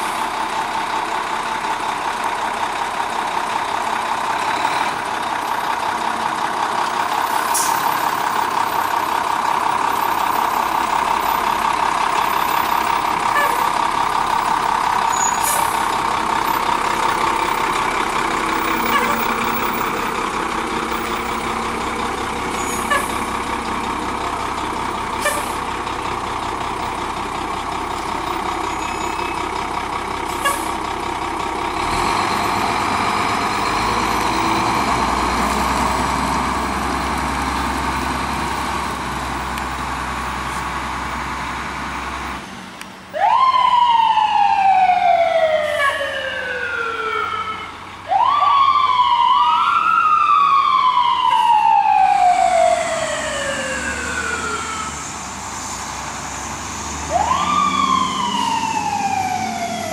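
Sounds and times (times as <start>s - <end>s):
fire engine siren: 0.0s - 39.5s, 43.1s - 59.9s
diesel engine running: 0.0s - 49.2s, 50.2s - 59.9s.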